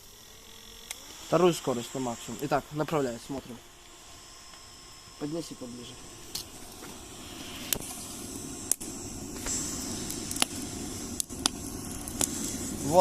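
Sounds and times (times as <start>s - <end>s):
burning wood crackling: 0.0s - 13.0s
electric fan running: 0.0s - 13.0s.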